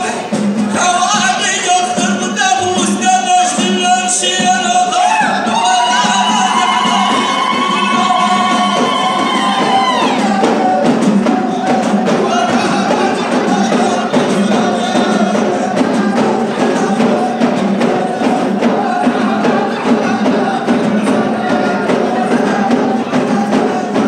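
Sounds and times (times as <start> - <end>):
frame drums beating: 0.0 - 24.0
voices singing: 0.0 - 24.0.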